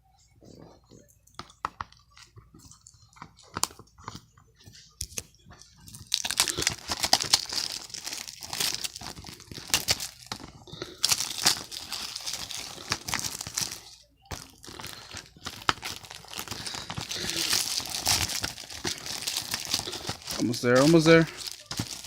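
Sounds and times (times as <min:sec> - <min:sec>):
plastic wrap crinkling: 0:02.1 - 0:22.0.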